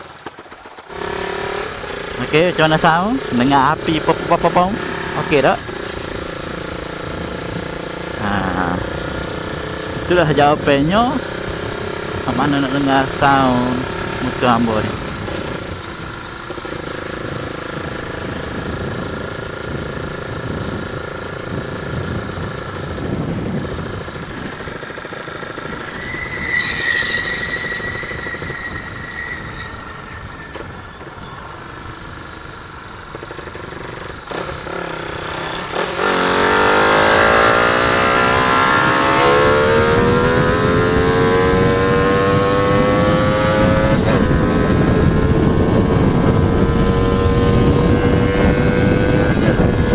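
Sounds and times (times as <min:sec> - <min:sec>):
motorcycle engine revving: 0:00.3 - 0:49.9.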